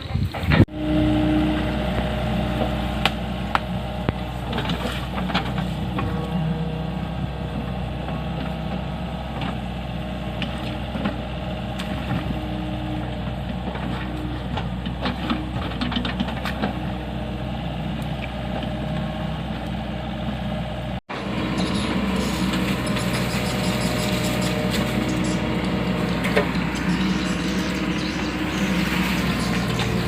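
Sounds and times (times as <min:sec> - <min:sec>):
diesel engine running: 0:00.1 - 0:30.0.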